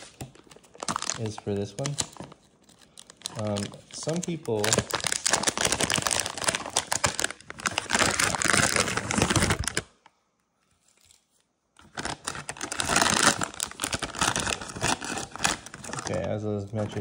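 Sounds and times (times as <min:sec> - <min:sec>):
plastic bags crinkling: 0:00.0 - 0:10.0, 0:11.8 - 0:17.0.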